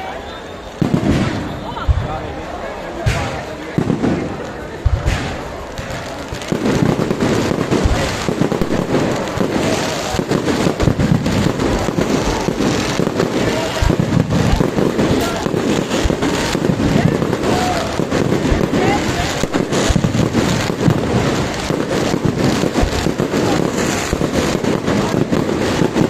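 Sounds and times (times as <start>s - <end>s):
bonfire crackling and popping: 0.1s - 26.0s.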